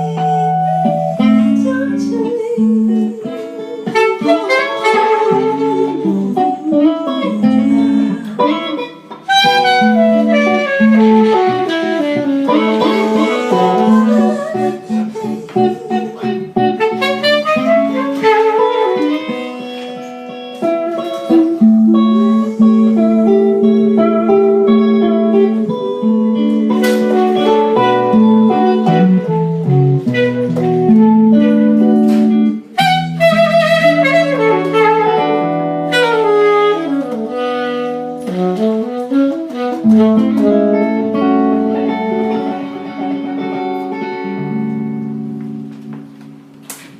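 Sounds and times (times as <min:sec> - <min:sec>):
band playing slow blues ballad: 0:00.0 - 0:46.9.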